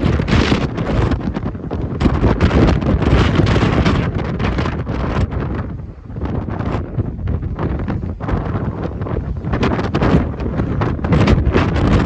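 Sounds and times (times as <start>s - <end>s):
wind gusts buffeting microphone: 0.0s - 12.0s.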